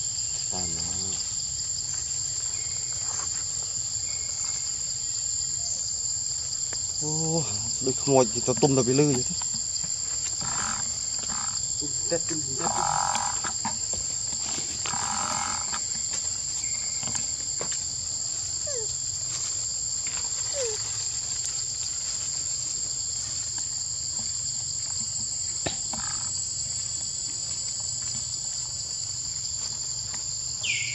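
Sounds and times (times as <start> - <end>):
insects droning: 0.0 - 30.9.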